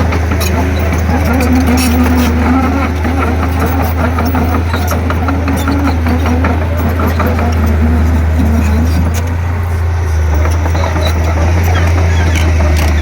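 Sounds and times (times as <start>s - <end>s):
light clicks and clanks: 0.0s - 9.4s, 10.2s - 13.0s
bulldozer diesel engine humming: 0.0s - 13.0s.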